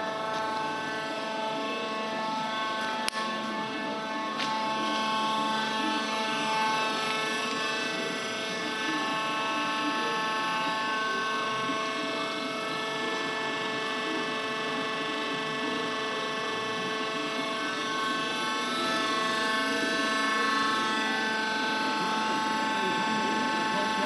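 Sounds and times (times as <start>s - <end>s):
centrifuge machine whine: 0.0s - 24.0s.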